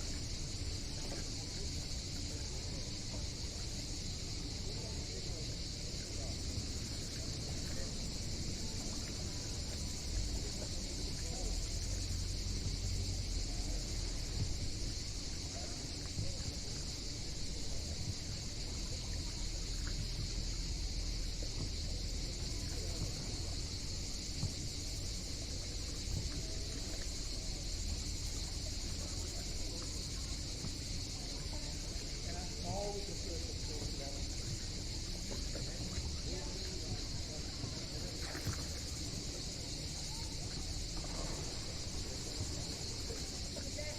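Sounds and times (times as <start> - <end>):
faint voices: 0.1 - 43.9.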